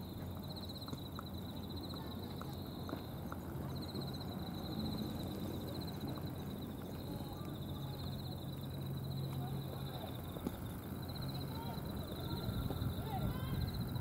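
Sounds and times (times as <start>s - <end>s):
insect trill: 0.0s - 14.0s.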